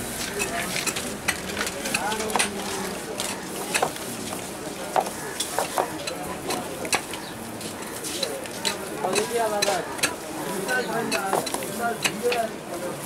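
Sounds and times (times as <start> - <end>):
faint distant voices: 0.0 - 13.0.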